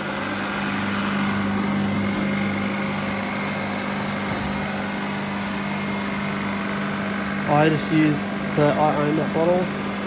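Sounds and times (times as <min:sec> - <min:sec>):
motor and compressor humming: 0:00.0 - 0:10.0.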